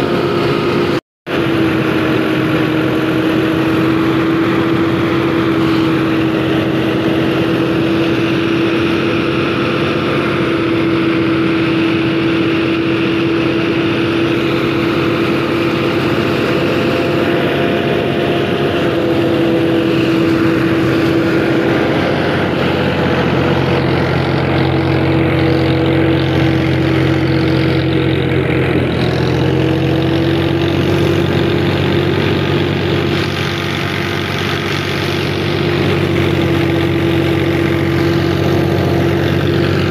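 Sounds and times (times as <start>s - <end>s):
thresher machinery whine: 0.0s - 39.9s
tractor diesel engine under load: 0.0s - 39.9s.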